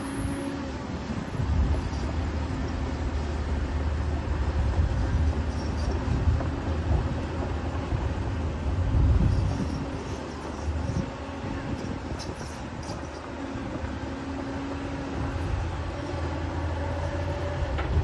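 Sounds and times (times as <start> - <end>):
excavator diesel engine rumbling: 0.0 - 18.0.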